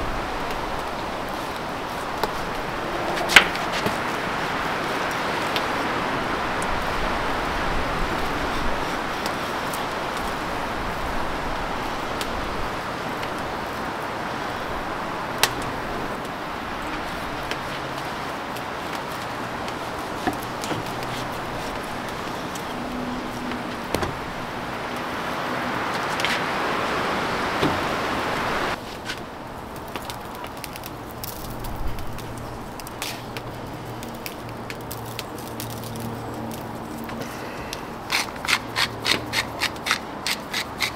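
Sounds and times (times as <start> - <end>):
fire crackles and pops: 0.0 - 40.9
wood fire hissing: 0.0 - 40.9.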